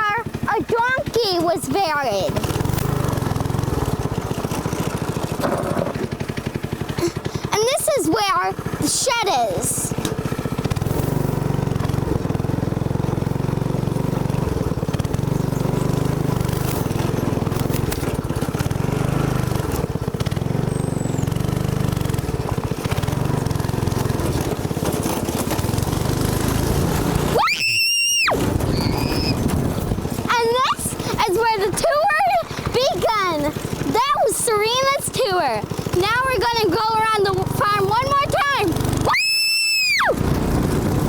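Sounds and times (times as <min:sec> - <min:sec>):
go-kart engine droning: 0:00.0 - 0:41.0.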